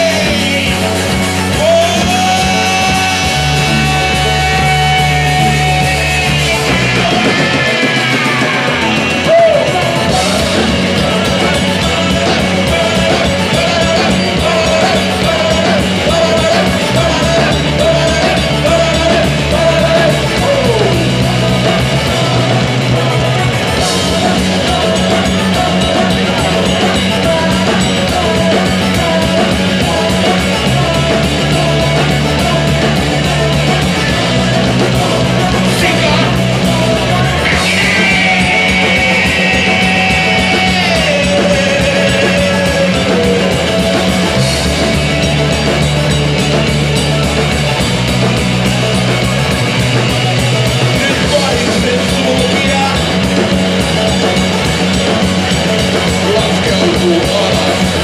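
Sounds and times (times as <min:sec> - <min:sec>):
person singing into a microphone: 0:00.0 - 0:45.4, 0:50.8 - 0:58.0
live rock band playing: 0:00.0 - 0:58.0.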